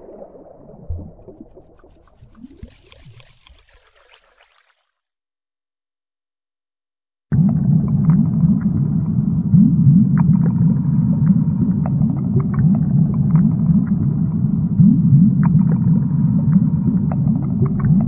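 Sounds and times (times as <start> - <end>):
underwater exhaled bubbles gurgling: 0.0 - 4.4, 7.4 - 18.0.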